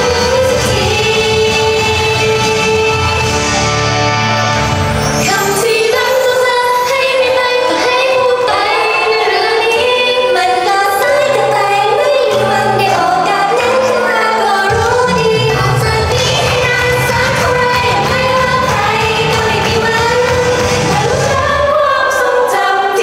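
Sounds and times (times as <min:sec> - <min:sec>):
young women singing pop song: 0:00.0 - 0:03.5, 0:05.2 - 0:23.0
instrumental backing: 0:00.0 - 0:21.7.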